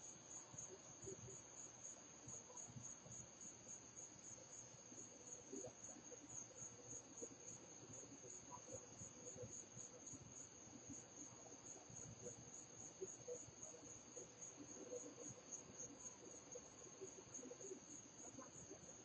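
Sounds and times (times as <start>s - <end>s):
faint crickets chirping: 0.0s - 19.0s.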